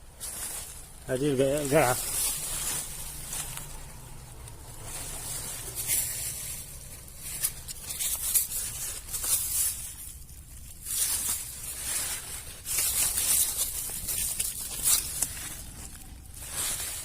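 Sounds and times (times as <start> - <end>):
soft clicks and rustles: 0.0 - 17.0
steady high hiss: 0.0 - 17.0.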